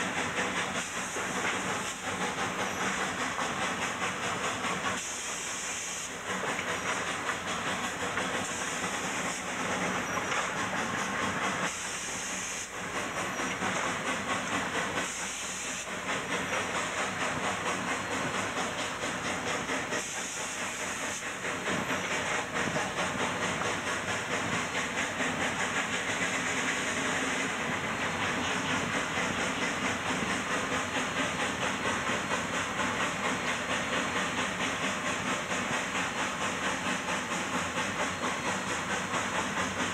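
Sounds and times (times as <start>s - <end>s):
sharp bursts of hiss: 0.0s - 39.8s
steam hissing: 0.0s - 39.9s
steam locomotive exhaust beats: 0.0s - 39.9s.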